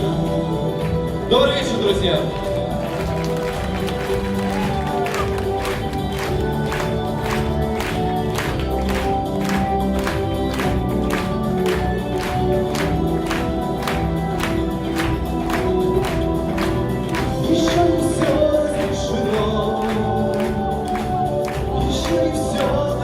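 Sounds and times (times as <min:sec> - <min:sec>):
live band playing: 0:00.0 - 0:23.0.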